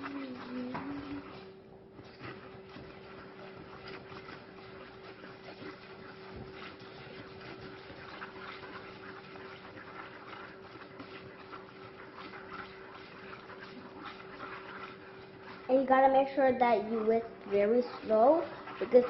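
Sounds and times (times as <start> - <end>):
steady hum: 0.0 - 19.0
whisk stirring liquid in a pan: 0.0 - 19.0.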